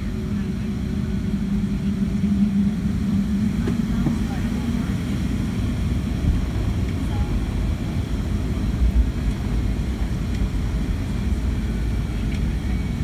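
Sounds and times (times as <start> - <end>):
aircraft cabin rumble while taxiing: 0.0 - 13.0.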